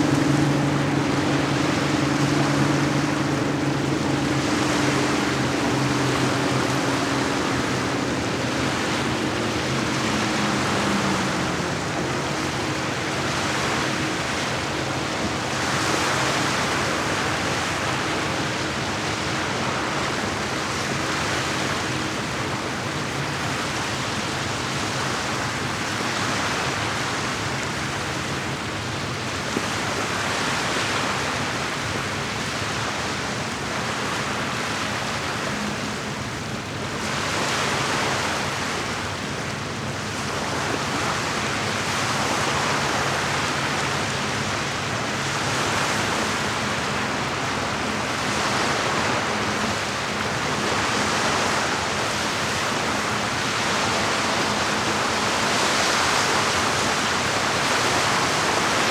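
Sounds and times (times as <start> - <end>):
motorboat engine hum: 0.0 - 58.9
water lapping against shore: 0.0 - 58.9.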